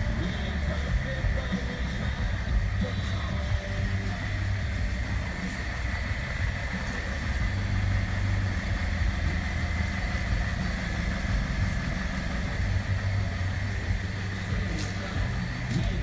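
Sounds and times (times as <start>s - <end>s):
car engine idling roughly: 0.0s - 16.0s.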